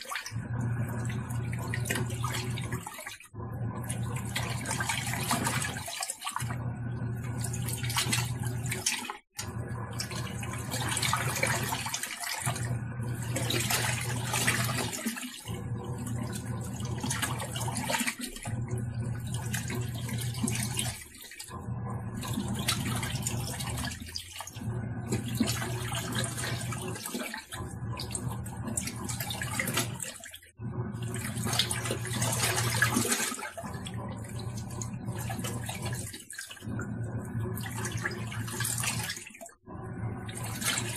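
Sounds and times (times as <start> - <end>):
washing machine motor hum: 0.0 - 40.9
water churning: 0.0 - 40.9.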